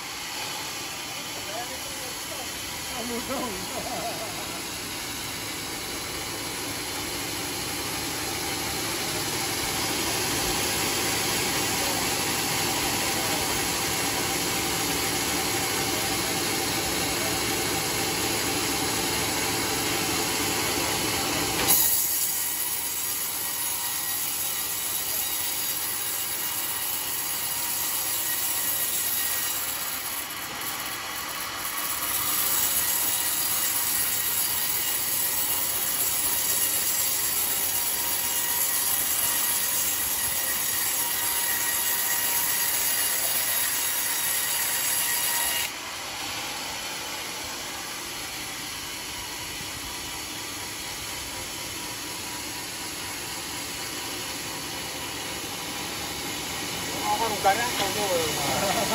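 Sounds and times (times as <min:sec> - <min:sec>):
band saw cutting log: 0:00.0 - 0:58.9.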